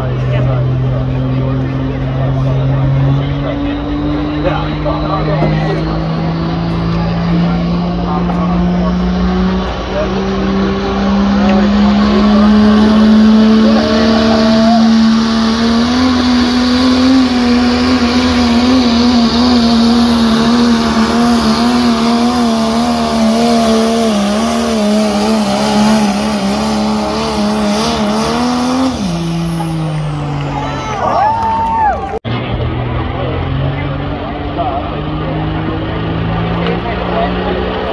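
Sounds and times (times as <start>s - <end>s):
pickup engine at high revs: 0.0s - 37.9s.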